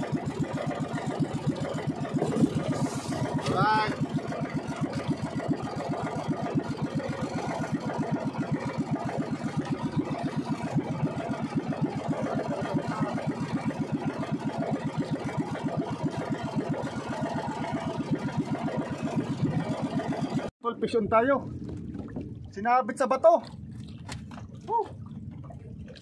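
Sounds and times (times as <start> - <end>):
boat engine puttering: 0.0 - 26.0.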